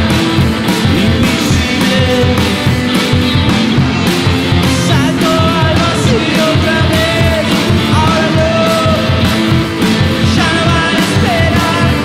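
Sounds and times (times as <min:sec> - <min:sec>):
drum kit beat: 0:00.0 - 0:12.0
electric guitars: 0:00.0 - 0:12.0.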